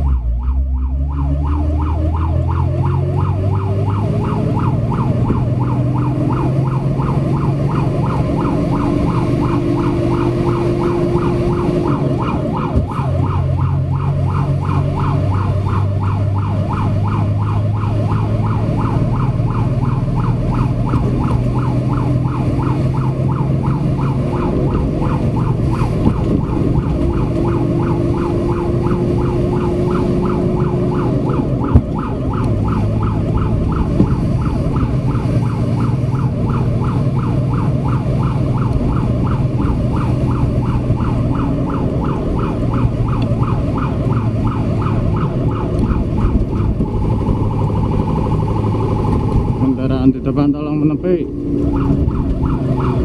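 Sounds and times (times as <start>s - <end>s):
fire truck siren yelping: 0.0s - 53.0s
truck engine running: 0.0s - 53.0s.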